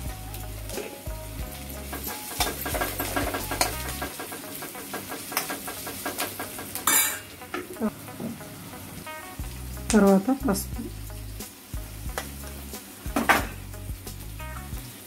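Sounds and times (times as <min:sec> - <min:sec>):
frying sizzle: 0:00.0 - 0:15.0.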